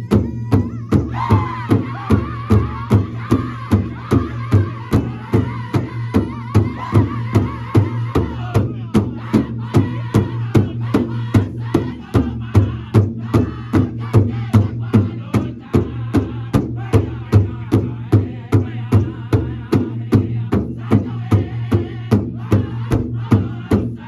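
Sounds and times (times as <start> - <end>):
big drum beating: 0.0 - 24.0
group singing in unison: 1.1 - 24.0.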